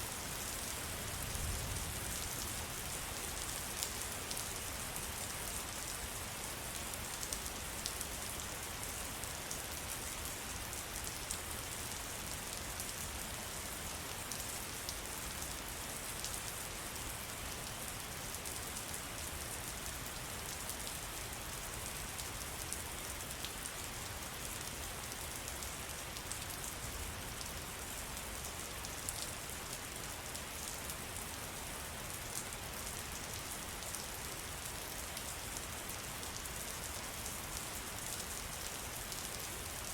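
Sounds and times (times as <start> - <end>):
rain hissing in a forest: 0.0 - 39.9.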